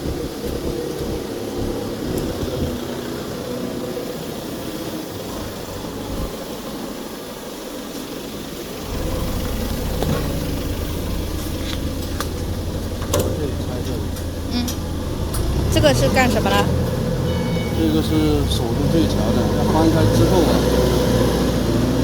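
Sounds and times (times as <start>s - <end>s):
deep motor hum: 0.0s - 4.4s, 8.5s - 22.0s
machinery hum: 0.0s - 22.0s.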